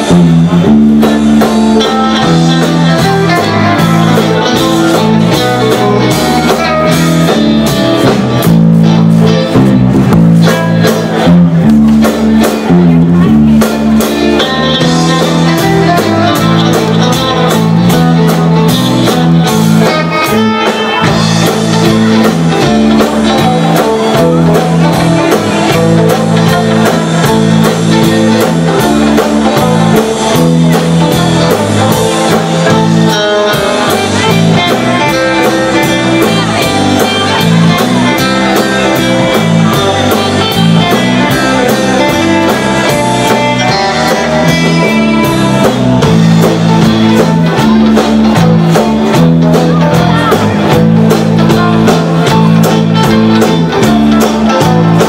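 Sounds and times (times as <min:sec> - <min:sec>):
bass guitar: 0:00.0 - 0:55.0
drums: 0:00.0 - 0:55.0
twangy electric lead guitar: 0:00.0 - 0:55.0.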